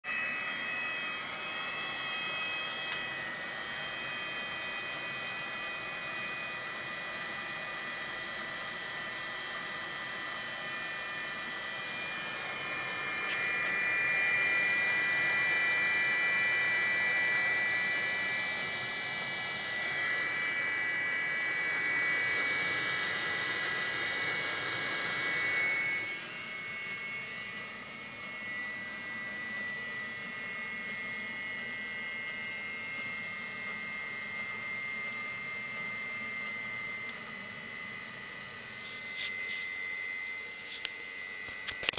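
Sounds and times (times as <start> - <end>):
water heater whine and rushing: 0.0 - 41.9.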